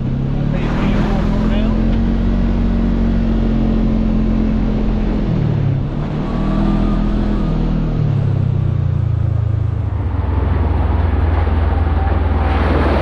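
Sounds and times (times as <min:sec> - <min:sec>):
utility vehicle engine running: 0:00.0 - 0:13.0.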